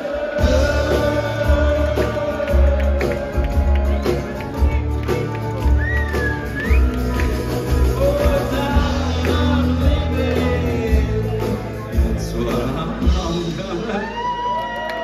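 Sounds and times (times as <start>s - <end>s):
acoustic guitar: 0.0s - 13.6s
person singing: 0.0s - 14.3s.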